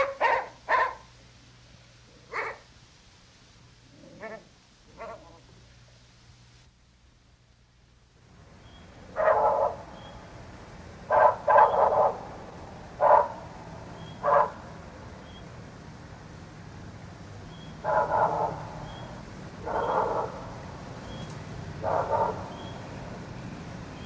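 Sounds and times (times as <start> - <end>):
record hiss: 0.0 - 24.0.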